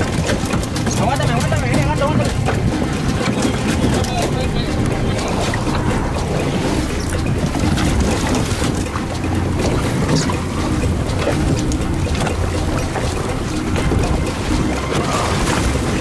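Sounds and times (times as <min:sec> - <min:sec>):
boat engine droning: 0:00.0 - 0:16.0
sea washing around boat: 0:00.0 - 0:16.0
wind noise on microphone: 0:01.6 - 0:16.0.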